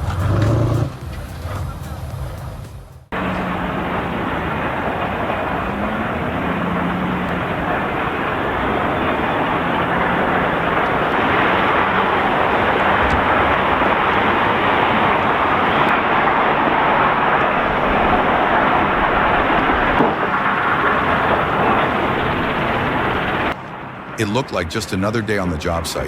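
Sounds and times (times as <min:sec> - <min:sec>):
heavy machinery engine running: 0:00.0 - 0:25.6.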